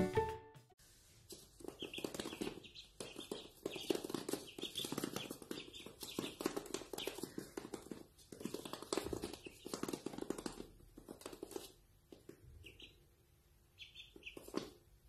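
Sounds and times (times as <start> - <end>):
duckling feet pattering on floor: 1.0 - 15.0
ducklings peeping: 1.6 - 15.0.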